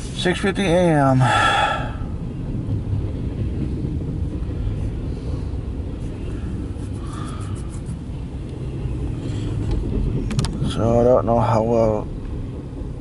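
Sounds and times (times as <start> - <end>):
freight train rumble: 0.0 - 13.0.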